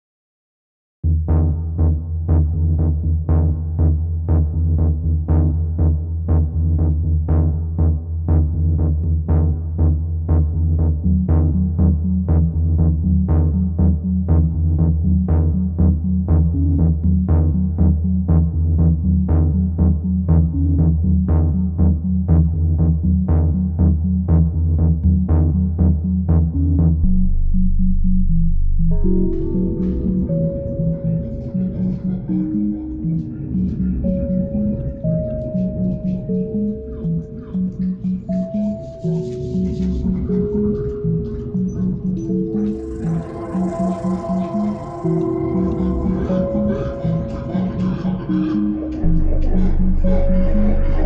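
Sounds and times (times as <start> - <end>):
electronic synthesizer music: 2.4 - 51.0.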